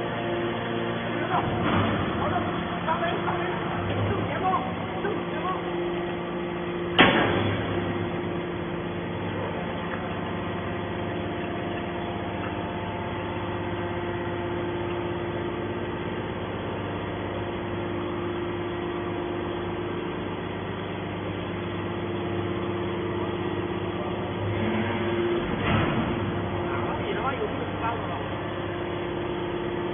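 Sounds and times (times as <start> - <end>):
hydraulic baler machine hum: 0.0 - 29.9.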